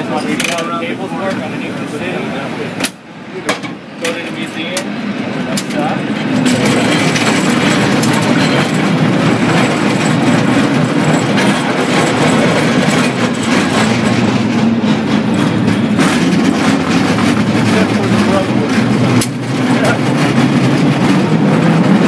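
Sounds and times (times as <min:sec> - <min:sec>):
cable car rumbling on rails: 0:00.0 - 0:22.0.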